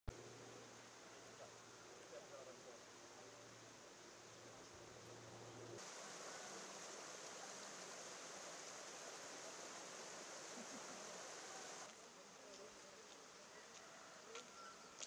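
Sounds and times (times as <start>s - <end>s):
outdoor background hiss: 0.1s - 15.0s.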